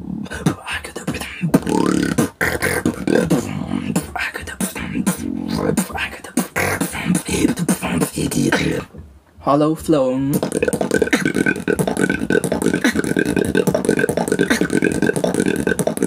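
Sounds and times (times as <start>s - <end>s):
beatboxing drum hits: 0.3s - 16.0s
low vocal bass tones: 1.2s - 16.0s.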